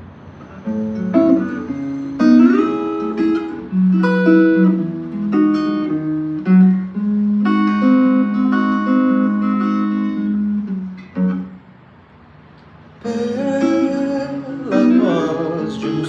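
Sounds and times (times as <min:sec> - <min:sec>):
acoustic guitar chords: 0:00.5 - 0:16.0.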